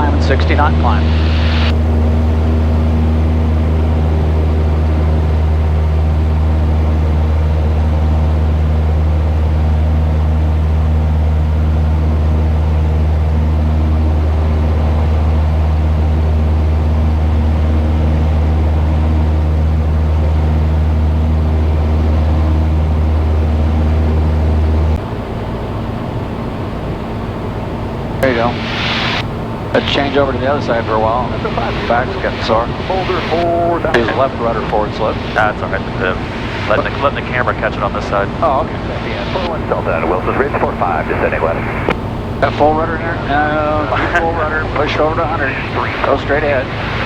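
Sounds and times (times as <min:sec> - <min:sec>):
propeller plane engine drone: 0:00.0 - 0:47.0.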